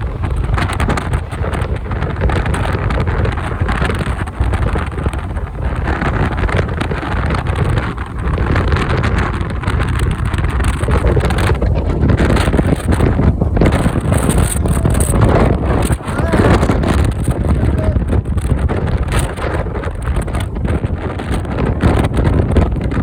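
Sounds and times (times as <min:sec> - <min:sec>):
motorcycle running: 0:00.0 - 0:23.0
road noise: 0:00.0 - 0:23.0
wind buffeting microphone: 0:00.0 - 0:23.0.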